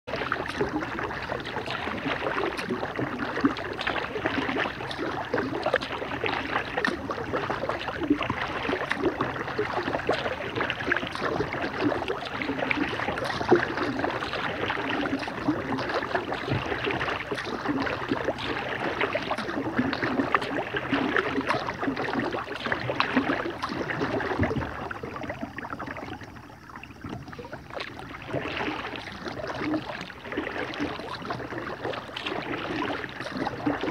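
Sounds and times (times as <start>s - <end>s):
water splashing against kayak hull: 0.1s - 33.9s.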